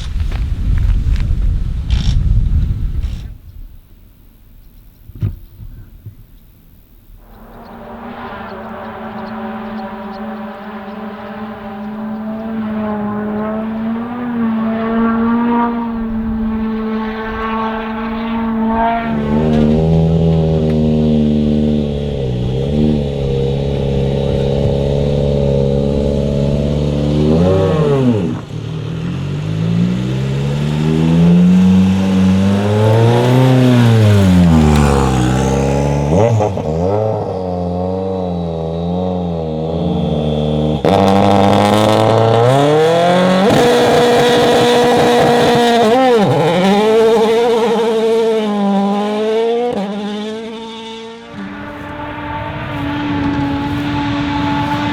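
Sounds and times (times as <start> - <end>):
rally car engine revving hard: 7.4 - 54.9.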